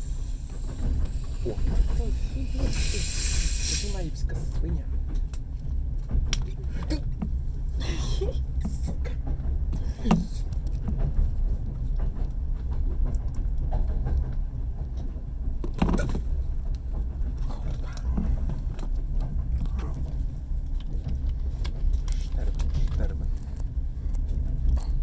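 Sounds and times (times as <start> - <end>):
train rumbling inside carriage: 0.0 - 25.0
faint knocks and rattles: 4.2 - 25.0.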